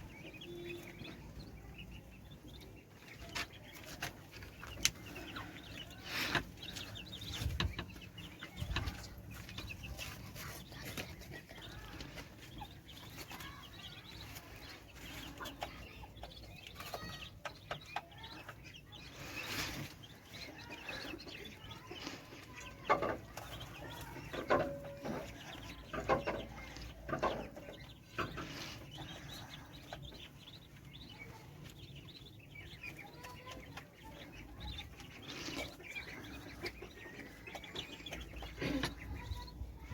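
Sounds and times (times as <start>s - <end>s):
poultry clucking and calling: 0.0s - 39.9s.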